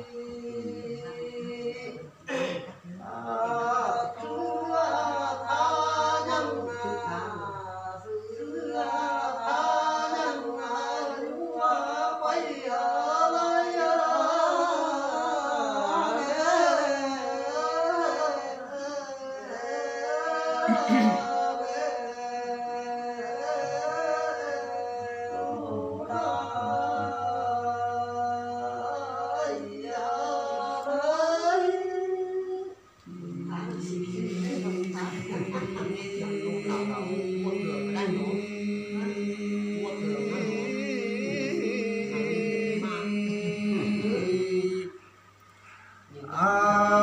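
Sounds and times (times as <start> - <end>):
person singing folk song: 0.0 - 45.0
steady hum: 0.0 - 47.0.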